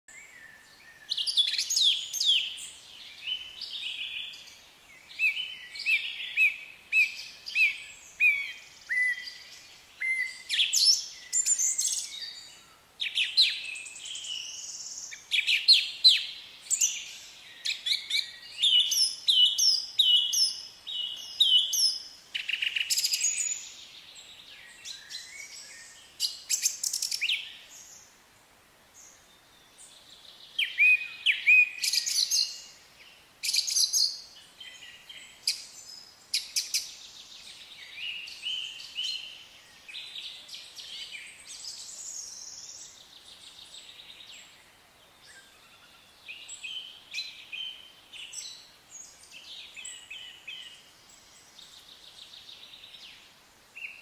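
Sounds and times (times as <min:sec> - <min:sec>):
birds chirping and trilling: 0:00.1 - 0:28.2, 0:28.9 - 0:54.0.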